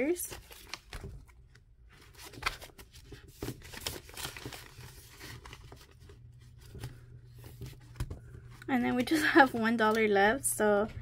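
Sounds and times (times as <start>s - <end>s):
paper and plastic crinkling: 0.0s - 10.8s.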